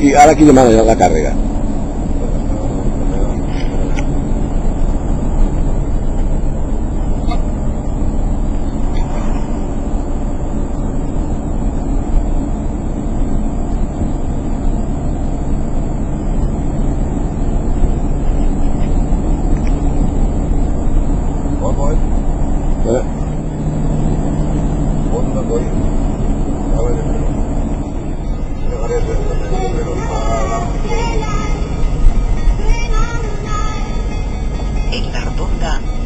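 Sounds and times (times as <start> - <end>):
road noise: 0.0 - 36.0
vehicle engine rumble: 0.0 - 36.0.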